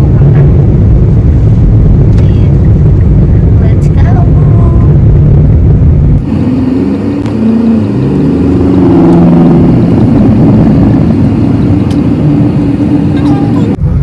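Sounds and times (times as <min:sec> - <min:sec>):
car engine hum: 0:00.0 - 0:14.0
road rumble: 0:00.0 - 0:14.0.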